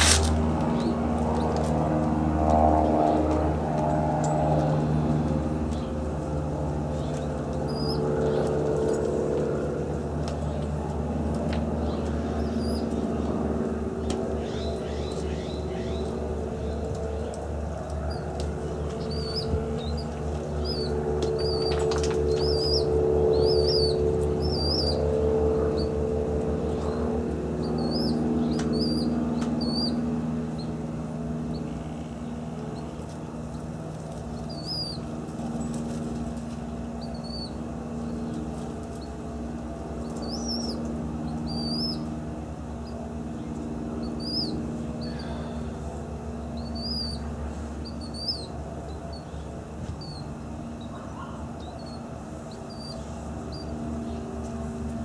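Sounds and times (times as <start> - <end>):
steady low hum: 0.0 - 55.0
small bird chirping: 6.9 - 9.0, 11.8 - 13.4, 14.0 - 54.5.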